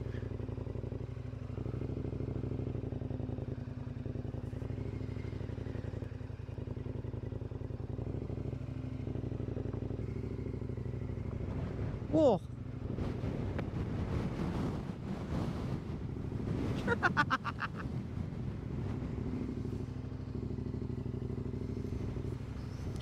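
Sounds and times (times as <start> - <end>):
motorcycle engine running at low revs: 0.0 - 23.0.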